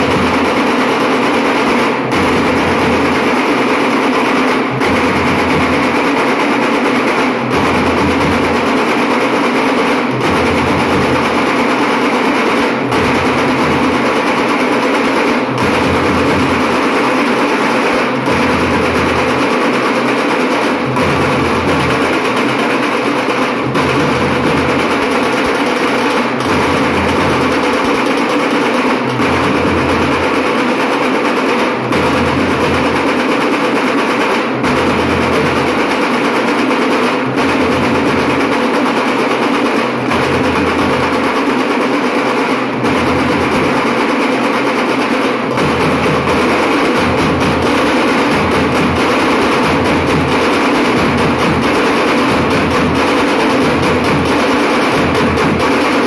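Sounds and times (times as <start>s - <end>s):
drums beaten in steady rhythm: 0.0s - 56.0s.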